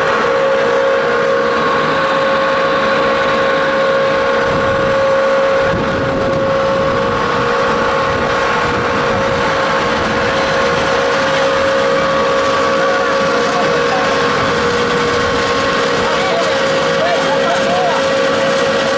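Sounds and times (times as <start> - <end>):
electric motors whining: 0.0 - 18.9.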